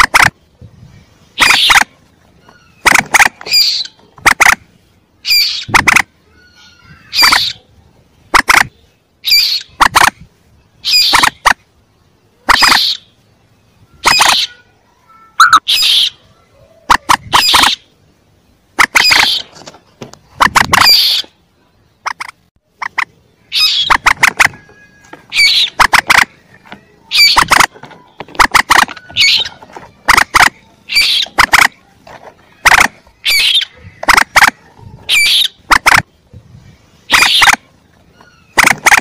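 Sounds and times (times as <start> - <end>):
moorhen chicks calling: 0.0 - 14.7, 15.4 - 21.4, 22.0 - 39.0.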